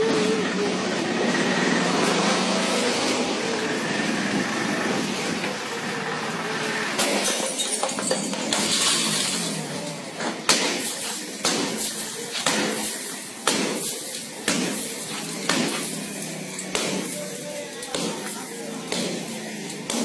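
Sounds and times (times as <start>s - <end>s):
steady noisy background: 0.0s - 20.0s.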